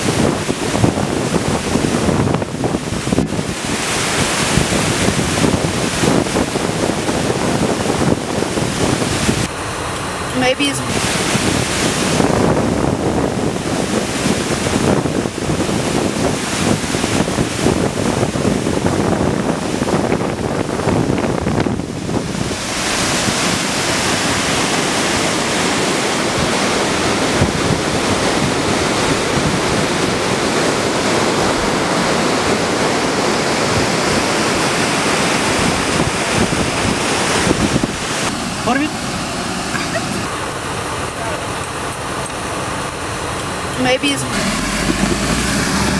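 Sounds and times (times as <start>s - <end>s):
flooded river rushing: 0.0s - 45.9s
waterfall rushing: 0.0s - 45.9s.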